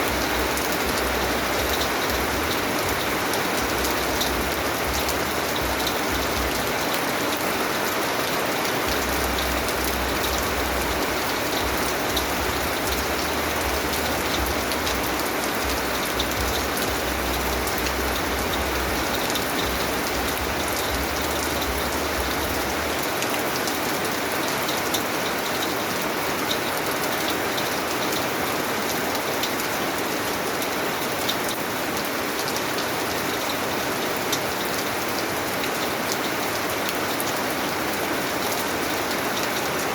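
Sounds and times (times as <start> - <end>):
steady rain with patter of drops: 0.0 - 39.9.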